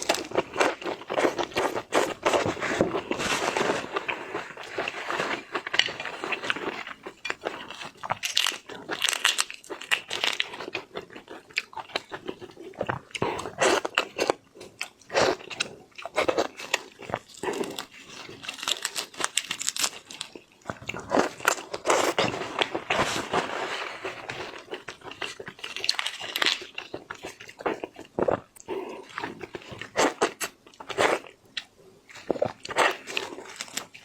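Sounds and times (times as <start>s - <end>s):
crunchy bites: 0.0s - 28.4s
wet chewing and sucking: 0.0s - 34.0s.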